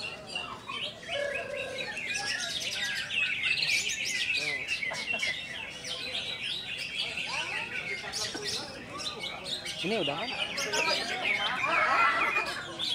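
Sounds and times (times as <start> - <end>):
songbirds chirping and trilling: 0.0 - 12.9.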